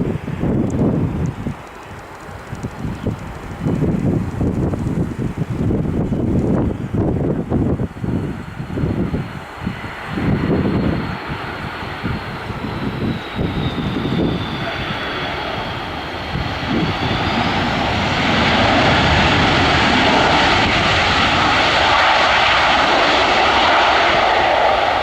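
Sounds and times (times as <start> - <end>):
jet engines whining: 0.1 - 25.0.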